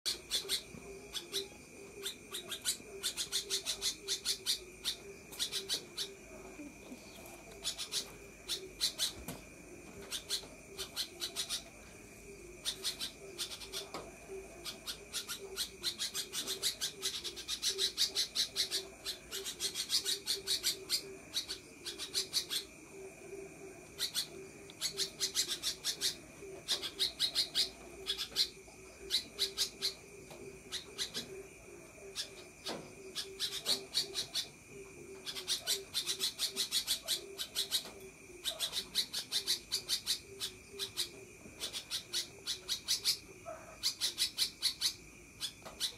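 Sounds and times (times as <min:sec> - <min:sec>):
bulbul rapid chattering song: 0:00.0 - 0:09.3, 0:10.0 - 0:45.9.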